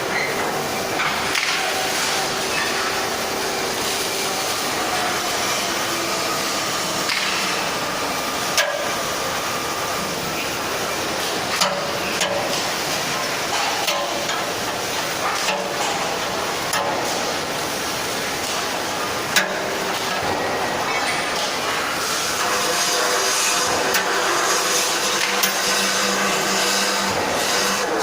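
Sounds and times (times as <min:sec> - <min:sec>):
workshop noise: 0:00.0 - 0:28.0.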